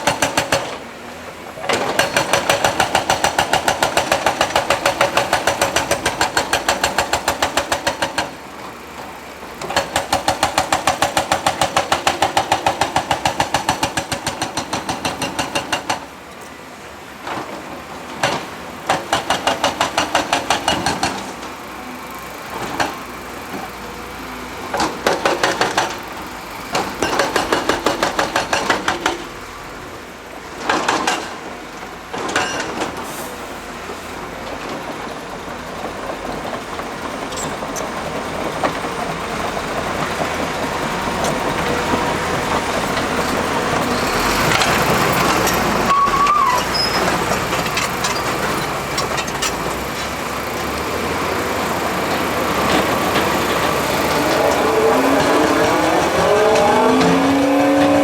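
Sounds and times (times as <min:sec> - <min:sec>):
hydraulic hammer pounding rock: 0:00.0 - 0:16.2, 0:17.2 - 0:21.8, 0:22.4 - 0:29.8, 0:30.4 - 0:33.1, 0:34.4 - 0:58.0.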